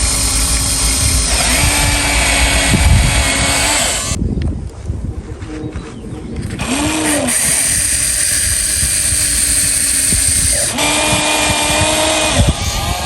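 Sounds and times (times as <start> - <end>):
electric motors whining: 0.0 - 4.2, 6.4 - 13.0
constant low clatter: 0.0 - 13.0.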